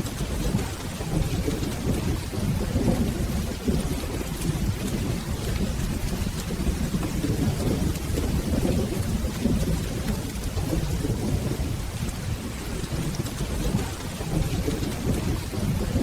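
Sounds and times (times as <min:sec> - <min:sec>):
rolling thunder: 0:00.0 - 0:16.0
steady rain: 0:00.0 - 0:16.0.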